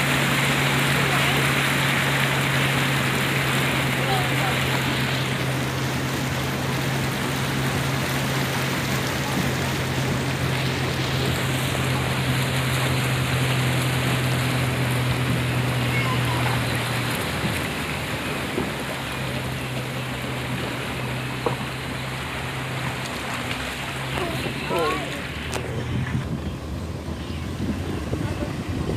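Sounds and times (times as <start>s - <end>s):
floodwater rushing and splashing: 0.0s - 28.9s.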